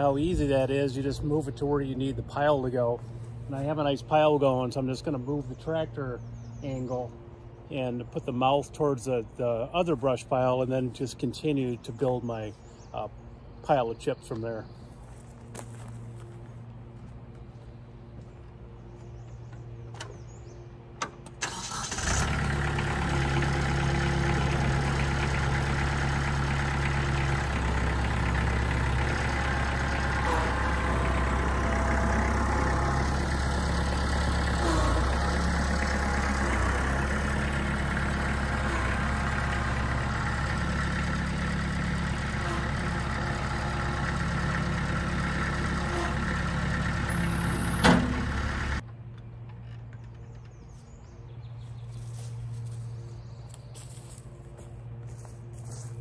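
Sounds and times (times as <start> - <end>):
tractor diesel engine running: 0.0 - 7.6, 14.6 - 56.0.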